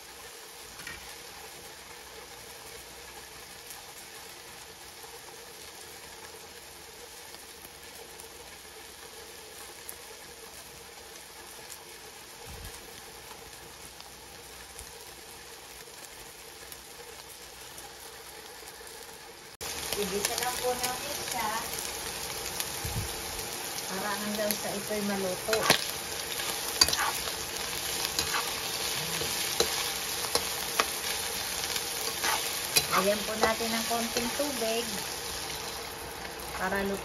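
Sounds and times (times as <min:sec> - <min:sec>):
meat sizzling in wok: 0:00.0 - 0:37.0.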